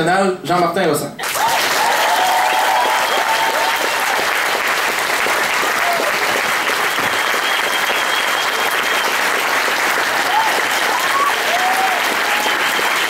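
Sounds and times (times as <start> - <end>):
large audience applauding: 1.2 - 13.0.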